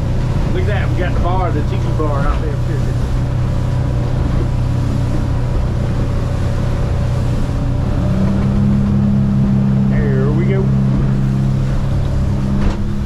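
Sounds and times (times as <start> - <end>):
high steady engine tone: 0.0 - 13.0
outboard motor running: 0.0 - 13.0
water rushing past hull: 0.0 - 13.0.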